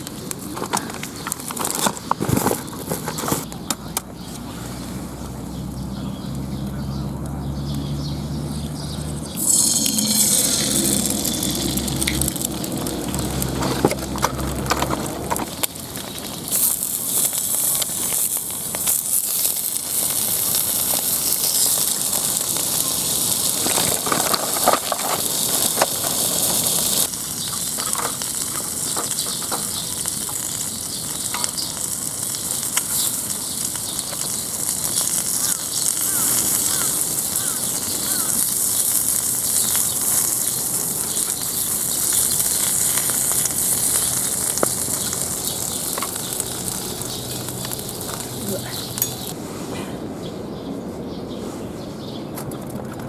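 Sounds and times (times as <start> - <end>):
wood fire crackling and popping: 0.0 - 4.0, 5.6 - 49.4.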